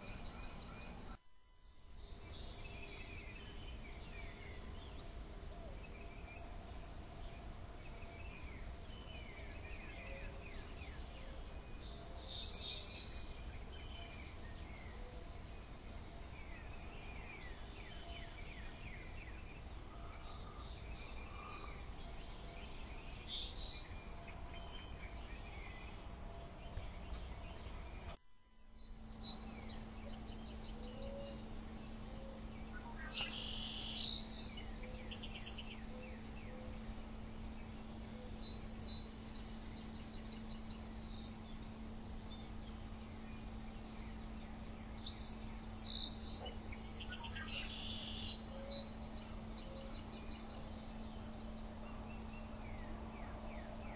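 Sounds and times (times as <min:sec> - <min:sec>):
songbirds chirping: 0:00.0 - 0:53.9
low outdoor rumble: 0:01.8 - 0:28.2, 0:28.8 - 0:53.9.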